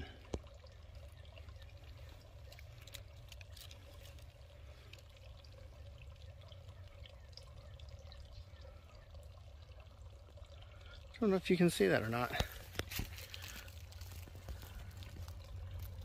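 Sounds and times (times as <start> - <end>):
faint water trickle: 0.0 - 16.0.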